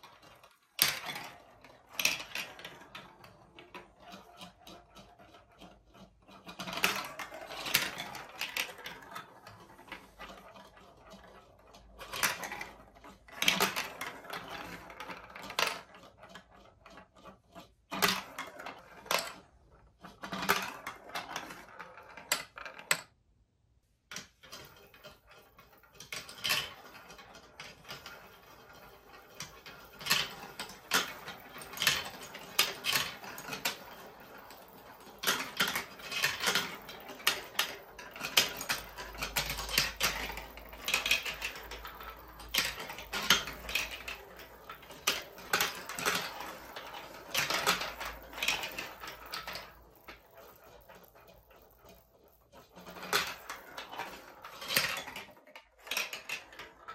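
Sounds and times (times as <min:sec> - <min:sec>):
balls clattering on plastic tracks: 0:00.0 - 0:23.2, 0:24.0 - 0:56.9.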